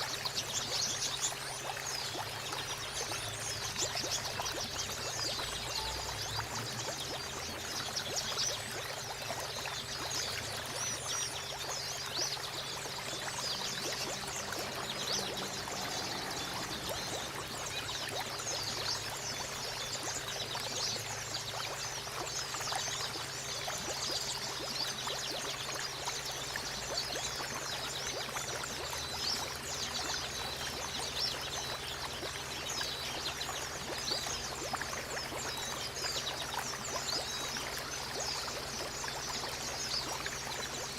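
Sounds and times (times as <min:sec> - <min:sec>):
water trickling and pouring: 0:00.0 - 0:40.9.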